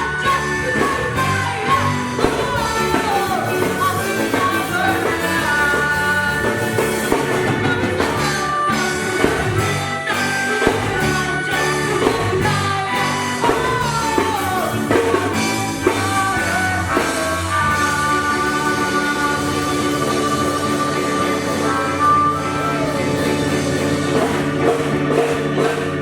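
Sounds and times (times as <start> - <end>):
person singing: 0.0 - 26.0
ska band playing: 0.0 - 26.0.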